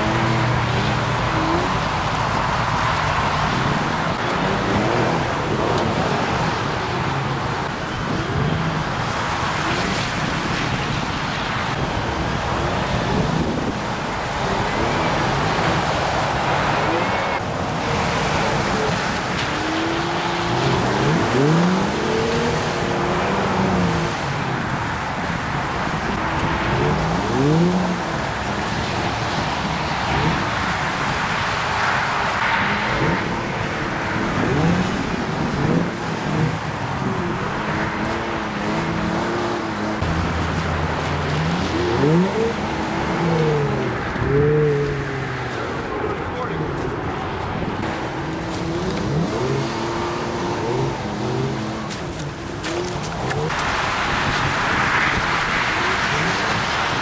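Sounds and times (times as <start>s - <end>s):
vehicle engines revving: 0.0s - 57.0s.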